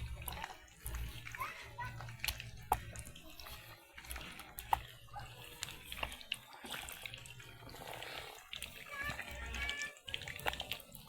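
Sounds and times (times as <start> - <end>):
water splashing and running: 0.0 - 11.0.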